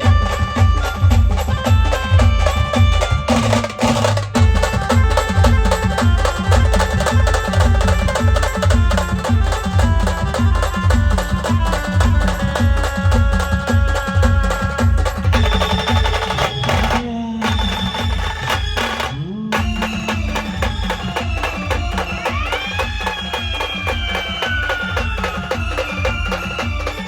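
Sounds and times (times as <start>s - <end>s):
dance band music: 0.0s - 27.0s.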